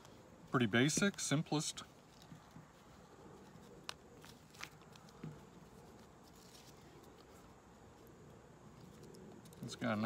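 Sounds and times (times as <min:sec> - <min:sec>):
faint handling noise: 0:00.0 - 0:10.0.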